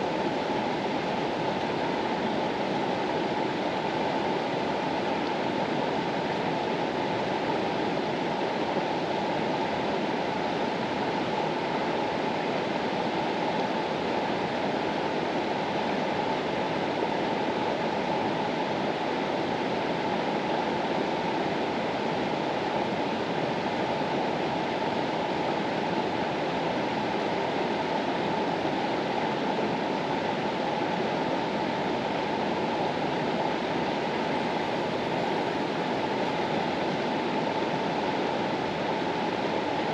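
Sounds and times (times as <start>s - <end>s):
mountain river rushing: 0.0s - 39.9s.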